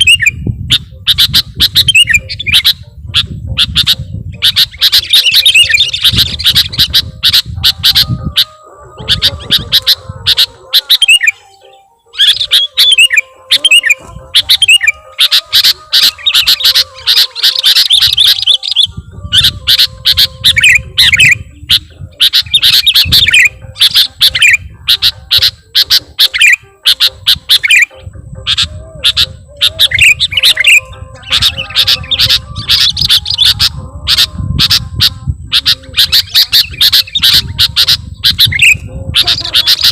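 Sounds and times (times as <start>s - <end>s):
birds chattering calls: 0.0s - 39.9s.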